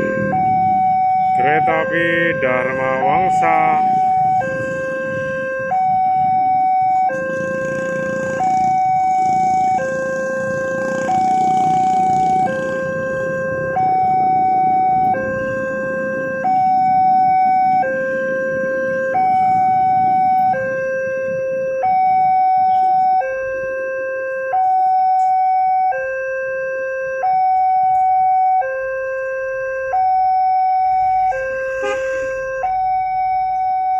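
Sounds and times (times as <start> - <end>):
two-tone crossing alarm: 0.0 - 33.9.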